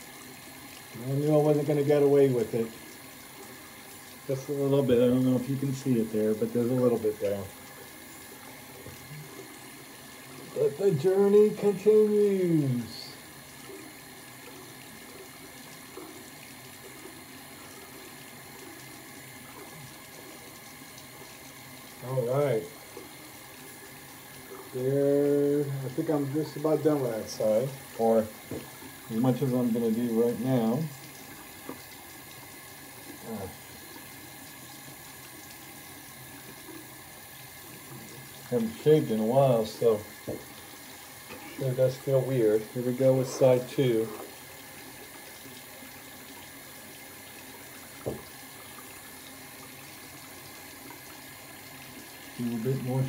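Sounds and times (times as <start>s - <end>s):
tap water running: 0.0s - 53.0s.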